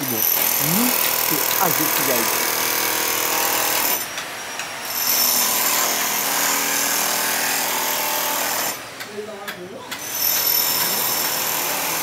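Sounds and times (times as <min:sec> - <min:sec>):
power tool motor running: 0:00.0 - 0:08.8, 0:10.0 - 0:12.0.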